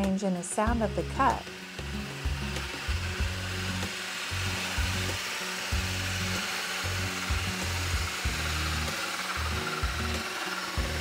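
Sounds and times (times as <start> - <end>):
lathe gouge hissing cut: 1.0 - 11.0.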